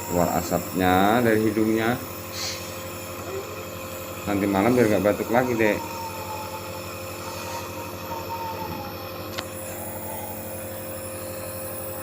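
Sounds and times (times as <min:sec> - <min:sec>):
nebulizer compressor humming: 0:00.0 - 0:12.0.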